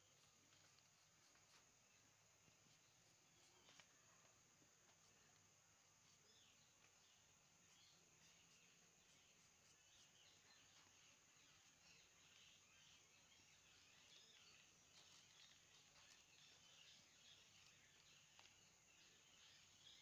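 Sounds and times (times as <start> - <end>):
faint insect calls: 0.0 - 20.0.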